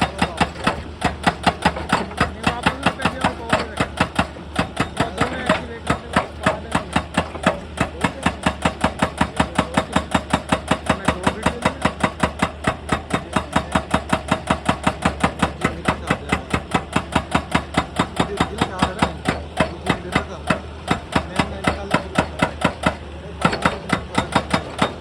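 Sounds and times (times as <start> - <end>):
excavator engine running: 0.0 - 25.0
hydraulic breaker hammering on rock: 0.0 - 25.0.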